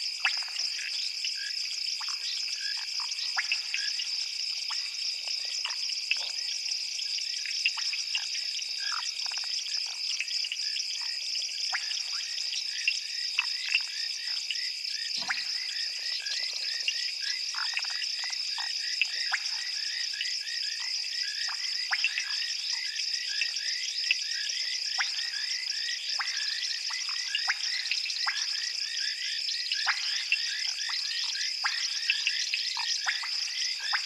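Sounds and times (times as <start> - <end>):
frogs calling: 0.0 - 34.0.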